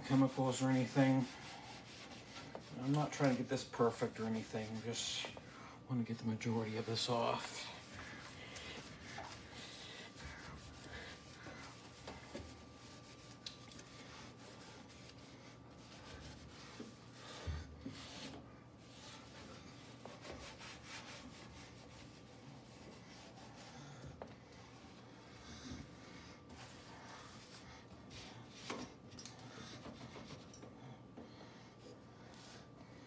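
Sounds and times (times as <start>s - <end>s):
sponge scrubbing stove top: 0.0s - 5.6s, 6.2s - 29.0s.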